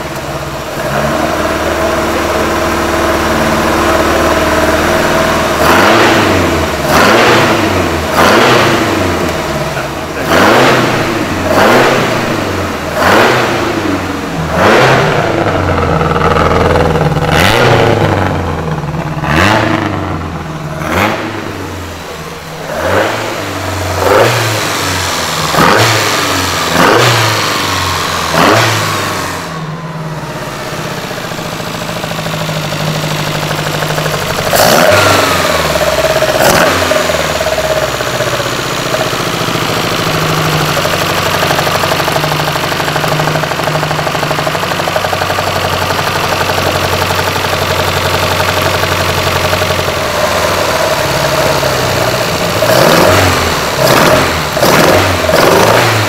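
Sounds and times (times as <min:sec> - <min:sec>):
engine idling: 0:00.0 - 0:56.0
engine throttle blips: 0:00.0 - 0:56.0.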